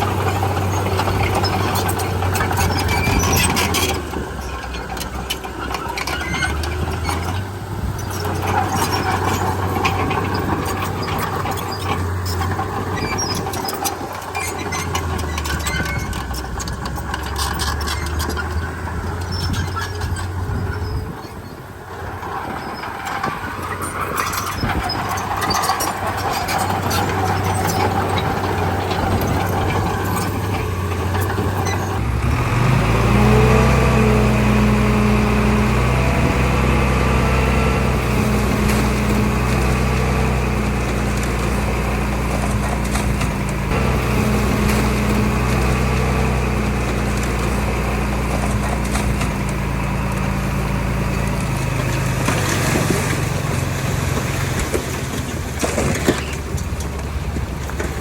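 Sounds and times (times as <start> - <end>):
knocks and rattles: 0.0 - 21.4, 22.1 - 58.0
bulldozer diesel engine working: 0.0 - 58.0.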